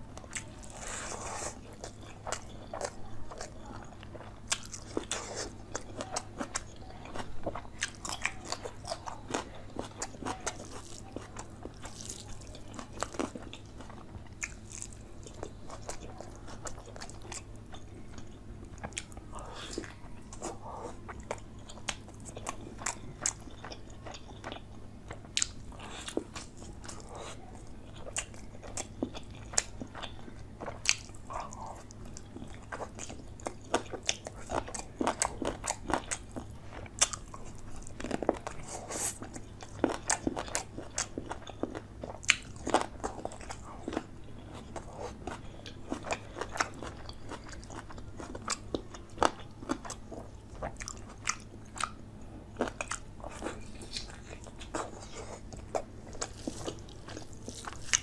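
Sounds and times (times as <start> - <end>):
steady low hum: 0.0 - 58.0
chewing and biting food: 0.1 - 58.0.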